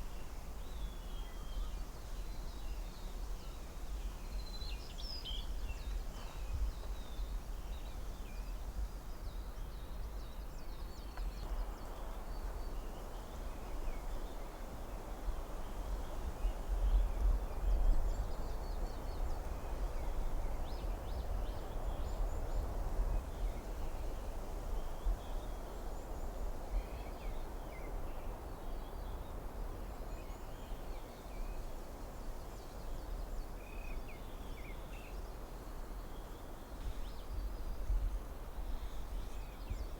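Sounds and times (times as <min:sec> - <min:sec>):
wind through forest canopy: 0:00.0 - 0:39.9.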